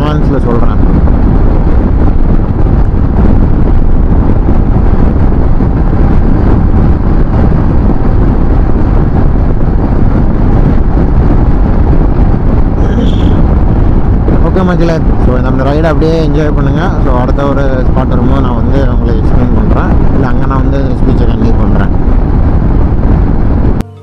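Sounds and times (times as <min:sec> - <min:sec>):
road noise: 0:00.0 - 0:23.8
wind rushing on microphone: 0:00.0 - 0:23.8.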